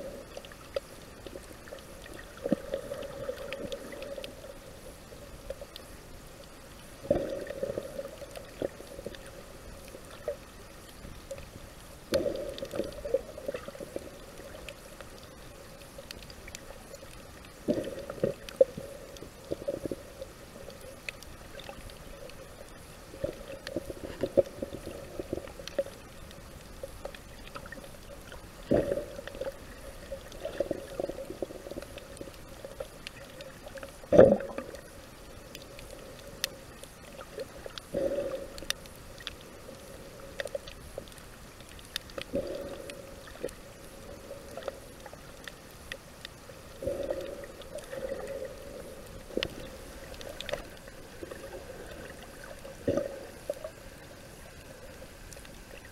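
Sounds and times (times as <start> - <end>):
low hiss: 0.0 - 55.9
muffled underwater bubbling: 0.0 - 55.9.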